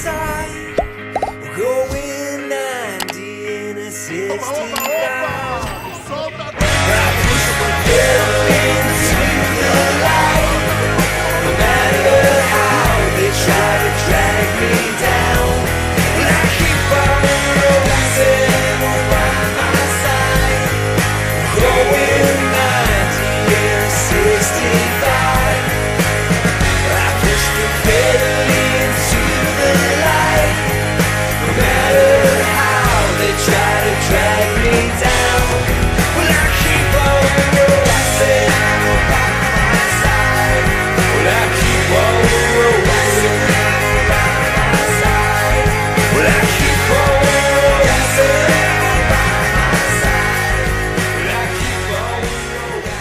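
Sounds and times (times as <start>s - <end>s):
rock song with distorted guitars: 0.0s - 53.0s
sung vocals: 0.0s - 53.0s.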